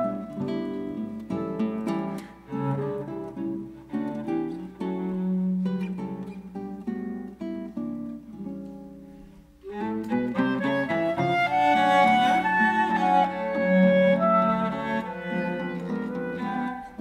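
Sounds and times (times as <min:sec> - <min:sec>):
cello: 0:00.0 - 0:17.0
clarinet: 0:00.0 - 0:17.0
plucked guitar notes: 0:00.0 - 0:17.0.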